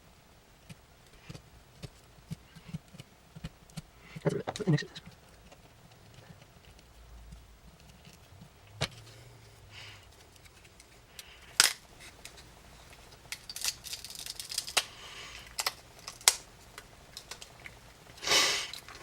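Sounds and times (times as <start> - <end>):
rustling: 1.0 - 19.0.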